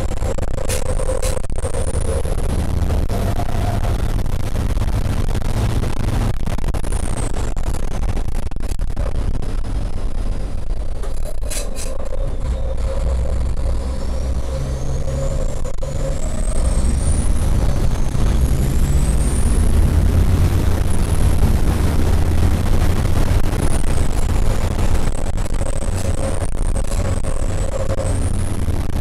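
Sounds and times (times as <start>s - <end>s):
high turbo whine climbing: 0.0s - 29.0s
truck diesel engine accelerating: 0.0s - 29.0s.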